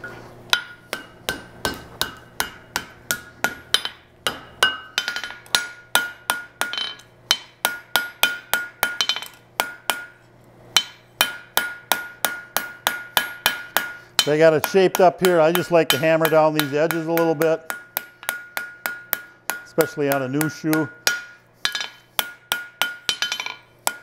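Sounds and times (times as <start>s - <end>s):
hammer ringing on anvil: 0.5s - 10.2s, 10.8s - 24.0s.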